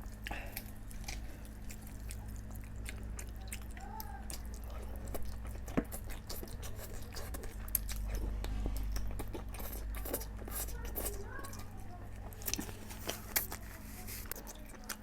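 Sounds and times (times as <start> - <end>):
chewing: 0.0 - 15.0
steady low hum: 0.0 - 15.0.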